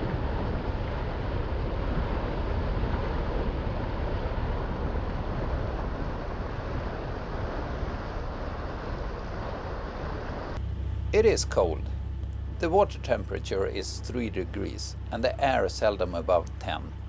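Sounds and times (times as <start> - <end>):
wind and water rushing: 0.0 - 17.0.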